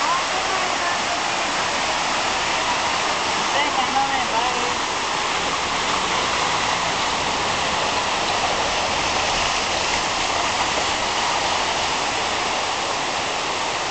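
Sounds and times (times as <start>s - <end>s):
stream rushing over rocks: 0.0s - 13.9s.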